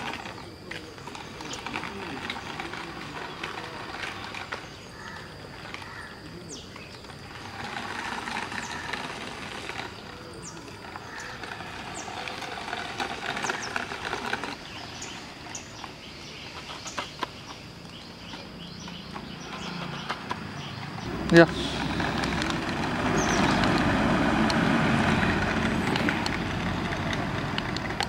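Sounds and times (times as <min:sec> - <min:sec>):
toy tractor rolling on asphalt: 0:00.0 - 0:28.0.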